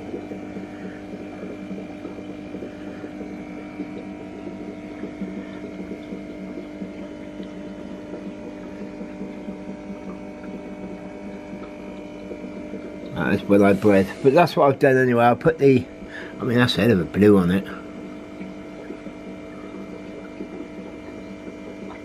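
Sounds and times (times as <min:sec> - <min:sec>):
aquarium filter pump humming: 0:00.0 - 0:22.0
water burbling and bubbling: 0:00.0 - 0:22.0.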